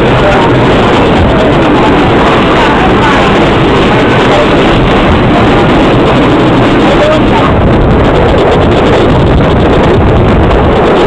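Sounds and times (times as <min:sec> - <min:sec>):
train running noise: 0:00.0 - 0:11.0
wind on microphone: 0:00.0 - 0:11.0.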